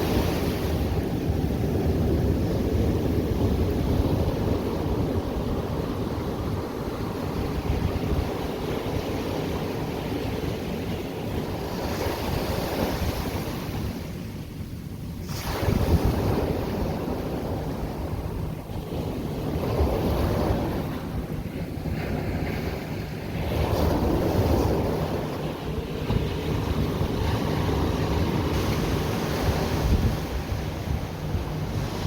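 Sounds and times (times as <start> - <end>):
ocean surf washing ashore: 0.0 - 32.0
wind buffeting microphone: 0.0 - 32.0.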